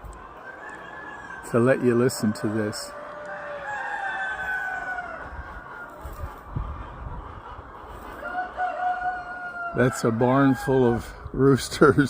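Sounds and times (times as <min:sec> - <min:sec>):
roosters crowing: 0:00.1 - 0:06.9, 0:07.9 - 0:11.3.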